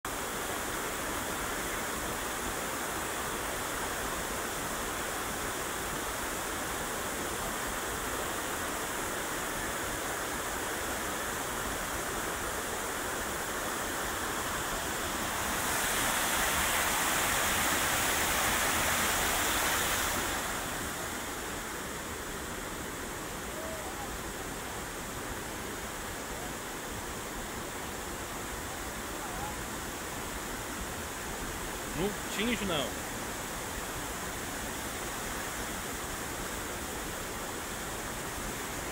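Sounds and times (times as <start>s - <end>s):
river water rushing over rocks: 0.1s - 38.9s.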